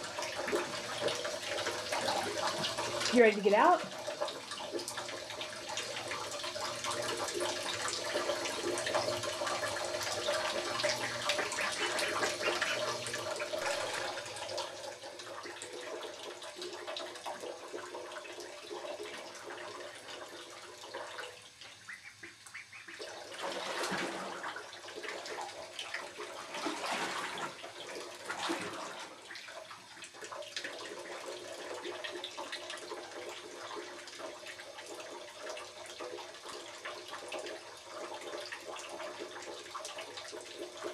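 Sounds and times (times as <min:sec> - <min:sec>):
water splashing in bathtub: 0:00.0 - 0:21.3, 0:23.0 - 0:40.9.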